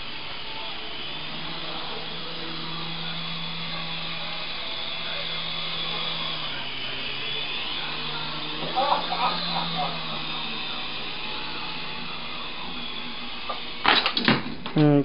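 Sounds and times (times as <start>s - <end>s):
toy helicopter rotors whirring: 0.0s - 15.0s.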